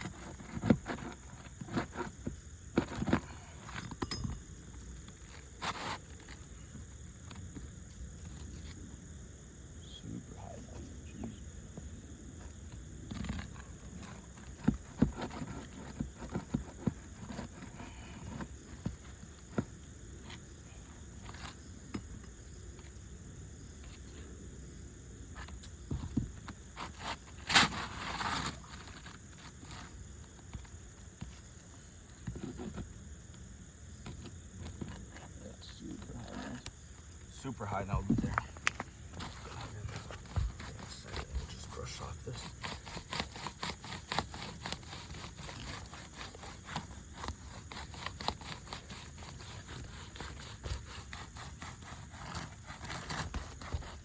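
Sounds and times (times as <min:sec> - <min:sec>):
roofing tool scraping under shingles: 0:00.0 - 0:08.8, 0:12.4 - 0:23.0, 0:25.4 - 0:54.0.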